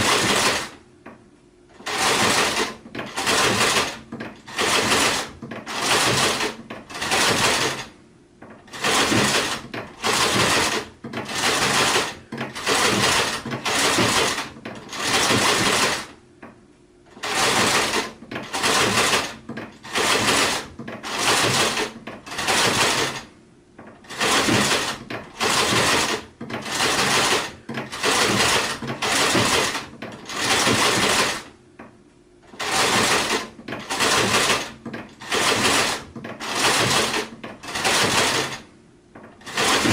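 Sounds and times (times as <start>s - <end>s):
sewing machine stitching: 0.0s - 0.8s, 1.7s - 16.2s, 17.1s - 31.6s, 32.4s - 39.9s.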